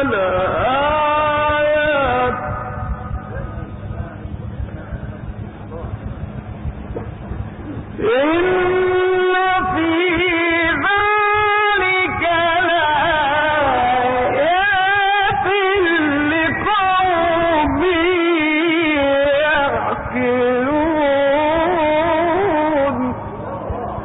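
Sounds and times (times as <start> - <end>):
man chanting melodically: 0.0 - 6.8, 7.7 - 24.0.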